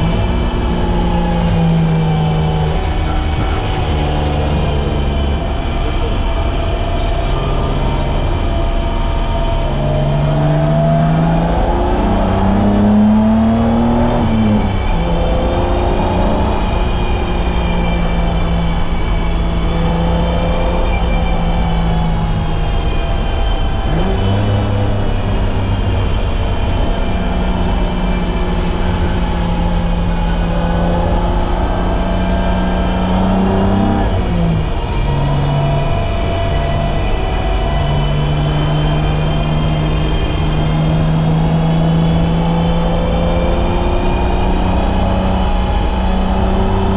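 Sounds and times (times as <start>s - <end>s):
car engine running hard: 0.0s - 46.9s.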